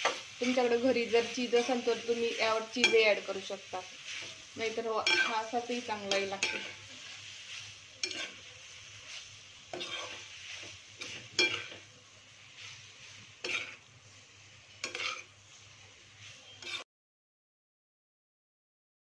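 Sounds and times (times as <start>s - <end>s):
spatula scraping pasta in pan: 0.0s - 16.8s.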